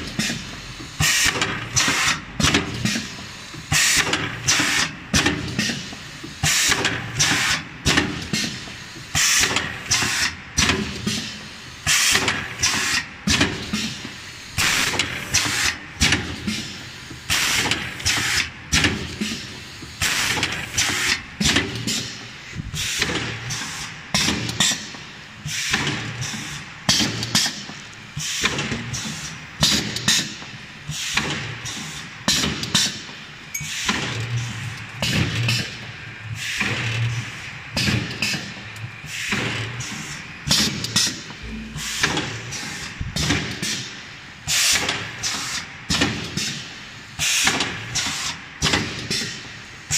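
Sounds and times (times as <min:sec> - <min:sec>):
pneumatic air hiss: 0:00.1 - 0:33.0, 0:33.6 - 0:49.9.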